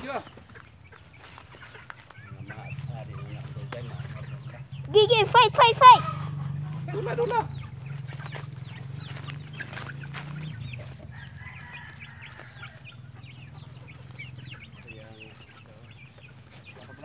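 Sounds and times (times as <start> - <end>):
chicks peeping and clucking: 0.0 - 17.0.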